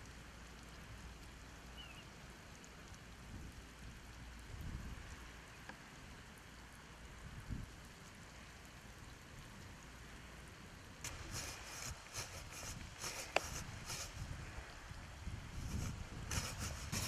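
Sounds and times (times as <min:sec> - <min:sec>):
water pattering on tree and grass: 0:00.0 - 0:17.0
water spraying from hose: 0:00.0 - 0:17.0.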